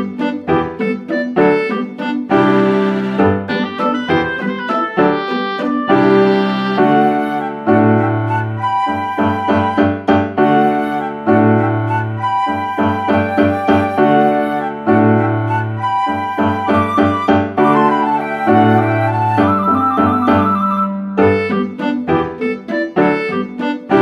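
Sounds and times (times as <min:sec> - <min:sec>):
instrumental background music: 0:00.0 - 0:24.0.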